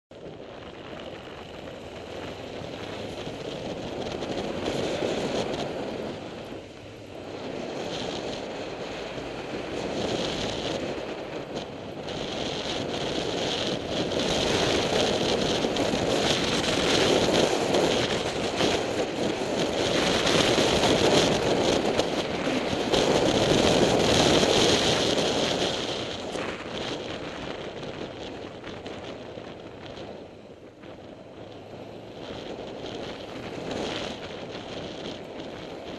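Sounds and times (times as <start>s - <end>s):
motorcycle engine running: 0.1s - 35.9s
wind rushing over microphone: 0.1s - 35.9s.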